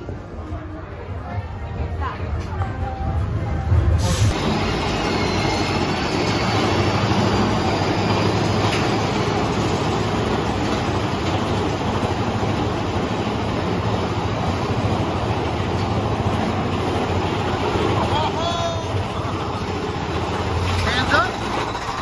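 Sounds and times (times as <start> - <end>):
roller coaster cars running on track: 0.0 - 22.0.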